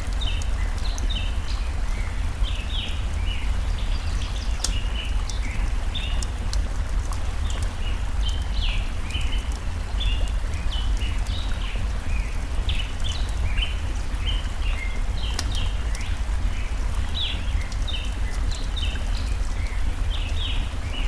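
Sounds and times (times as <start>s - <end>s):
campfire crackles: 0.0s - 21.0s.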